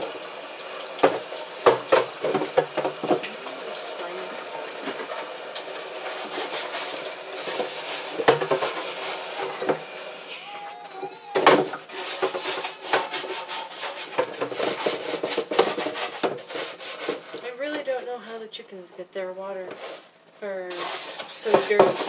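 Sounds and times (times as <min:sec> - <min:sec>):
running water: 0:00.0 - 0:19.8, 0:20.5 - 0:22.0
scrub brush scrubbing plastic: 0:01.0 - 0:18.0, 0:19.7 - 0:22.0.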